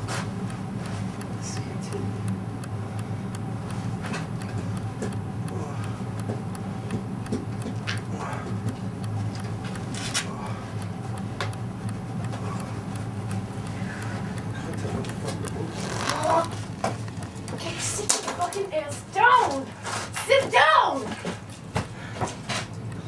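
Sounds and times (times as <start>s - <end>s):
rapid even ticking: 0.0s - 19.4s
steady low hum: 0.0s - 23.0s.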